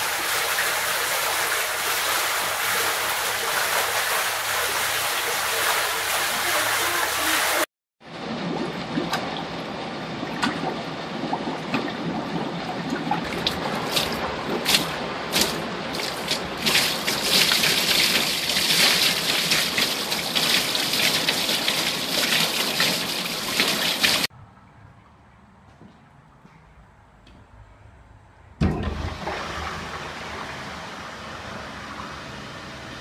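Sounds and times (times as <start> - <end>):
water overflowing toilet onto floor: 0.0 - 24.3, 28.6 - 32.9.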